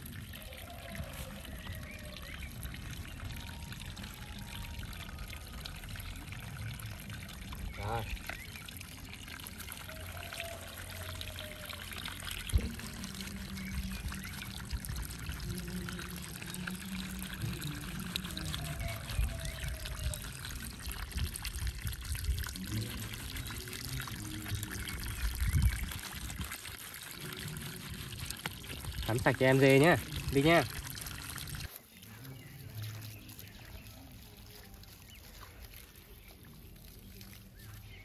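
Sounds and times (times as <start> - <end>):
water pouring and trickling: 0.0 - 38.0.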